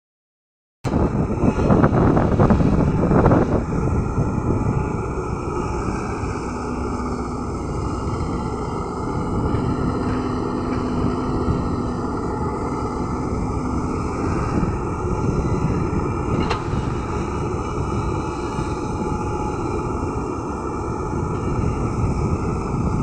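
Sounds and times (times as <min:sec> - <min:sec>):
excavator diesel engine running: 0:00.9 - 0:23.0
faint steady hum: 0:00.9 - 0:23.0.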